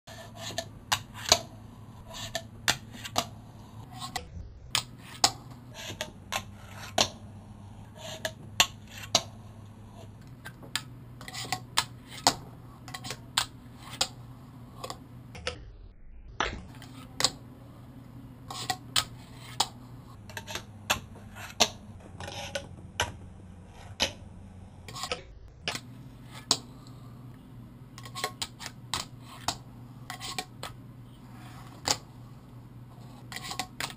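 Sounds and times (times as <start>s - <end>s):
low steady hum: 0.1s - 33.9s.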